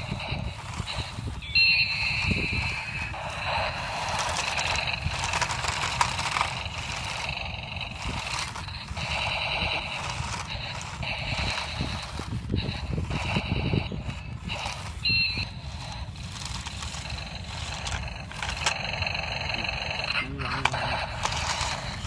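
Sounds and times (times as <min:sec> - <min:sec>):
low rumble: 0:00.0 - 0:22.0
toy tank motor buzzing: 0:00.0 - 0:22.0.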